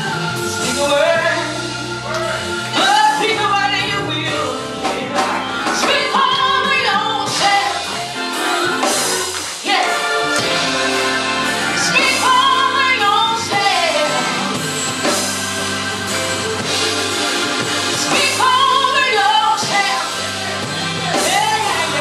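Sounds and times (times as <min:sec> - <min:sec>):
music with held chords and beat: 0:00.0 - 0:22.0.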